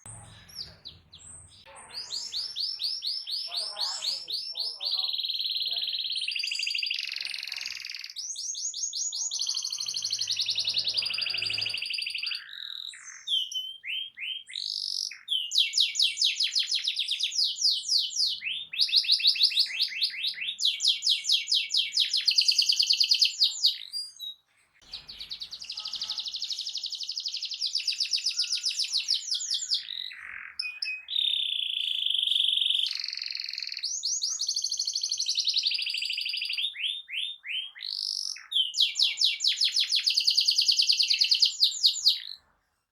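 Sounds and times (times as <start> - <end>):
canary singing trilled song: 0.0 - 42.6.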